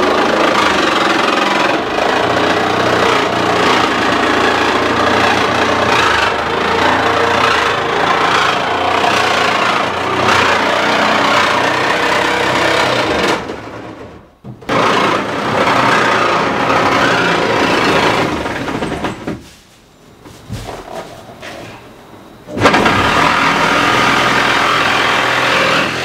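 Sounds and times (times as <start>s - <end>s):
jigsaw cutting sheet metal: 0.0s - 19.0s, 22.5s - 26.0s.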